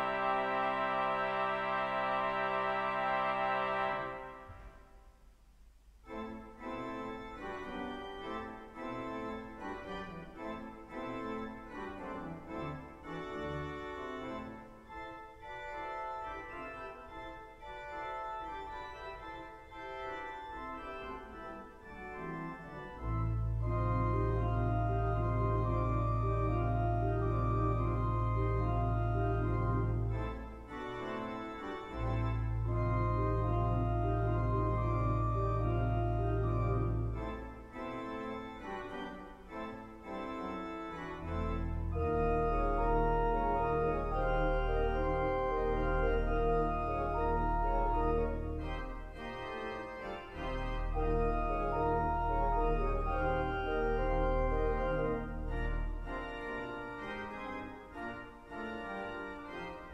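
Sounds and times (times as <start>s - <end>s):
pipe organ playing: 0.0s - 4.8s, 6.0s - 59.9s
deep organ pedal bass: 6.1s - 59.9s.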